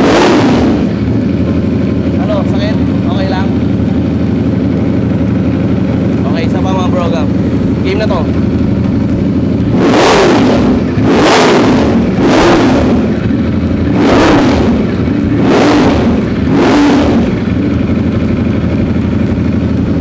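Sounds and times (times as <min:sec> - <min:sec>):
motorcycle engine idling: 0:00.0 - 0:20.0
motorcycle engine revving: 0:00.0 - 0:20.0.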